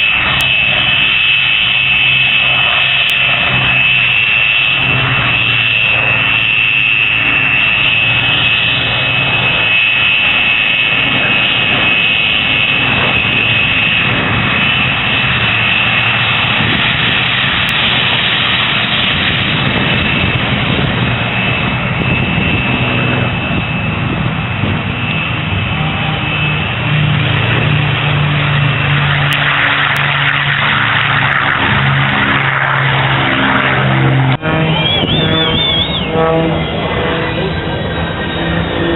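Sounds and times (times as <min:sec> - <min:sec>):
jet engine running with high whine: 0:00.0 - 0:38.9.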